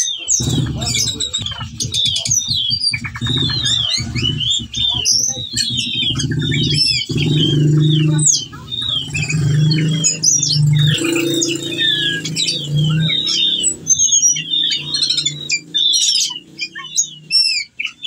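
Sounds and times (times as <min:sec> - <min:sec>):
thrush singing: 0:00.1 - 0:18.0.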